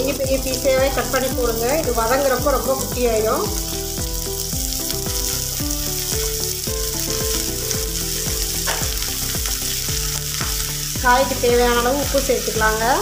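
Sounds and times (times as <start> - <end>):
background music with beat: 0.0 - 13.0
vegetables sizzling in oil: 0.0 - 13.0.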